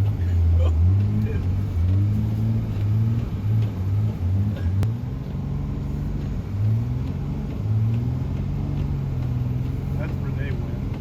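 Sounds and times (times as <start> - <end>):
pickup truck engine revving: 0.0 - 11.0.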